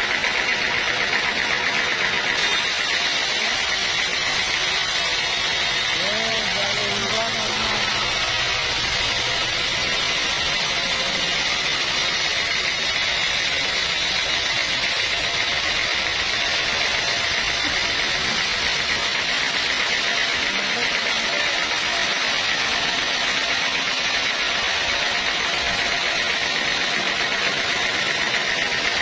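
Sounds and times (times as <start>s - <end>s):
sawmill saw cutting log: 0.0s - 29.0s.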